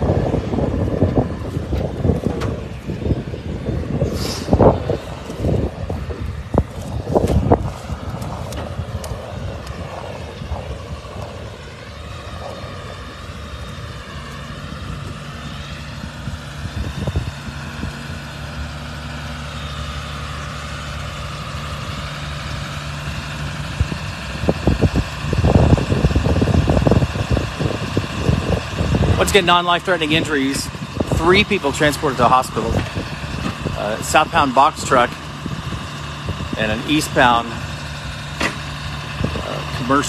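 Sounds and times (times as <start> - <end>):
vehicle engine idling: 0.0 - 40.0
wind buffeting microphone: 0.0 - 40.0.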